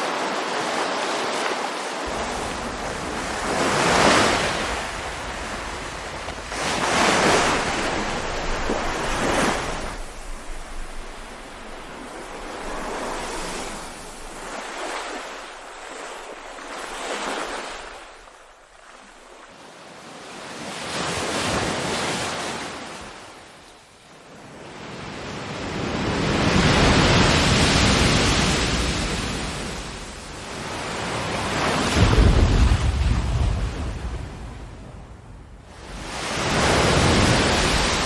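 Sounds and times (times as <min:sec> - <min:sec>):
ocean waves breaking ashore: 0:00.0 - 0:23.6, 0:24.6 - 0:38.0.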